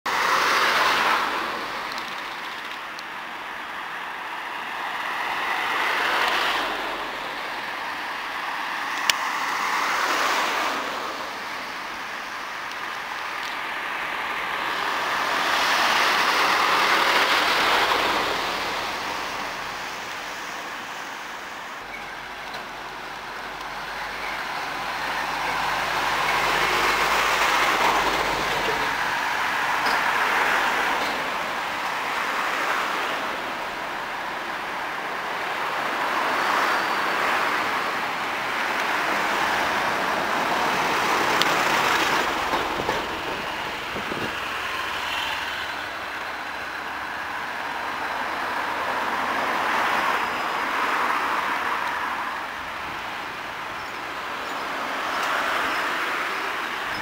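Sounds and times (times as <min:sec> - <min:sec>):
passing vehicles: 0:00.1 - 0:57.0.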